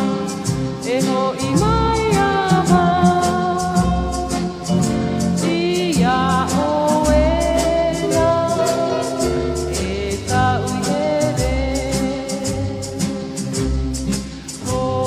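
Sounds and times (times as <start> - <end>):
quick percussion beat: 0.0 - 15.0
song with singing voices: 0.0 - 15.0.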